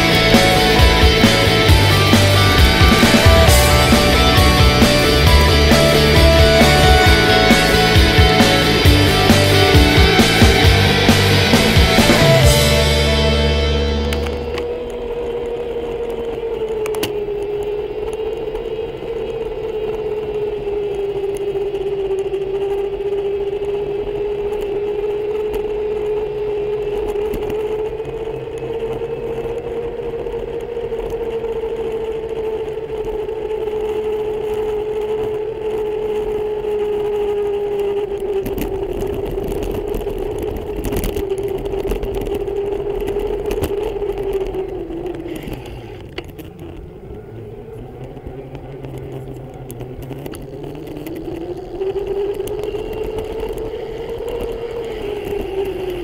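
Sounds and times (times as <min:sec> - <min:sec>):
electric motor whining: 0:00.0 - 0:56.0
tyre noise: 0:00.0 - 0:56.0.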